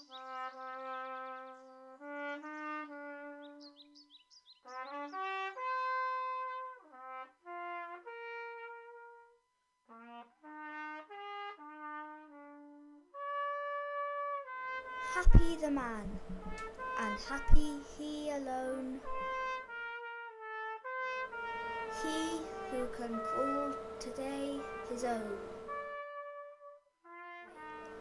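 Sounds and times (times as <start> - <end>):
brass instrument slow melody: 0.0 - 4.0, 4.6 - 28.0.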